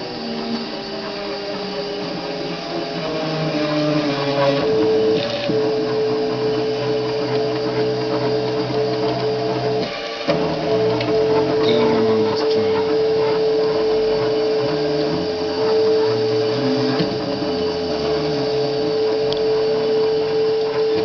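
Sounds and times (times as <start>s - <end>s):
stepper motors whining: 0.0s - 21.0s.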